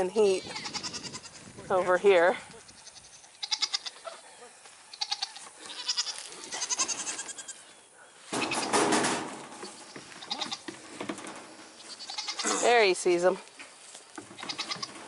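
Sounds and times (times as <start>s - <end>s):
goats calling: 0.2s - 8.8s, 9.5s - 10.9s, 11.5s - 13.0s, 13.8s - 15.0s.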